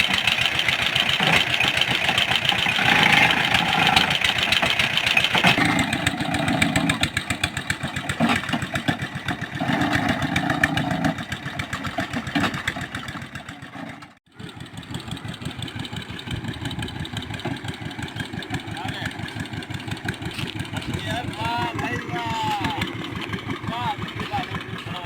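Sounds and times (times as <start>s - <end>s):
drilling rig engine running: 0.0s - 25.0s.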